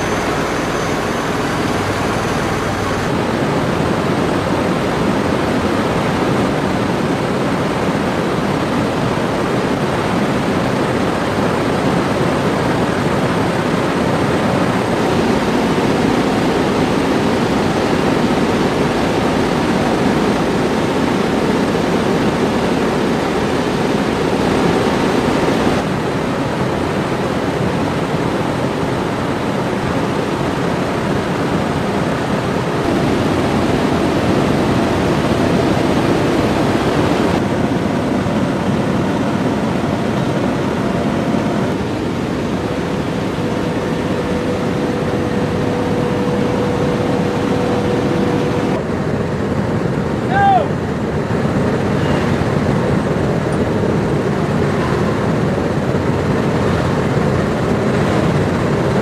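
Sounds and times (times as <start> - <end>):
aircraft engine noise: 0.0 - 59.0.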